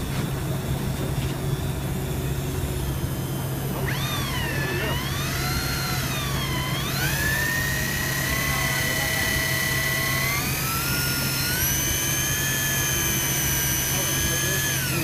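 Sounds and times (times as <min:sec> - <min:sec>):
steady low hum: 0:00.0 - 0:15.0
fishing reel motor whining: 0:02.8 - 0:15.0.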